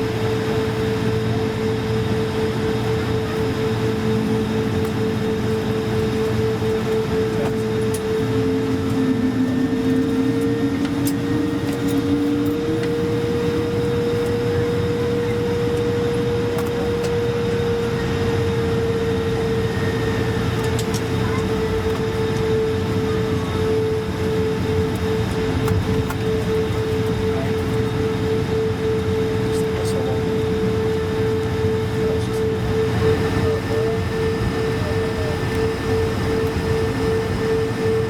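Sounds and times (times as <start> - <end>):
aircraft cabin hum and whir: 0.0 - 38.0.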